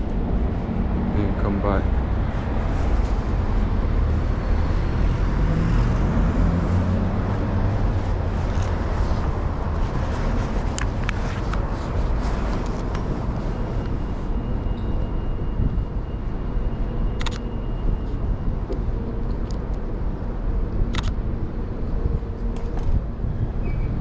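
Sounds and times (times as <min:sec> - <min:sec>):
low rumble of vehicles: 0:00.0 - 0:24.0.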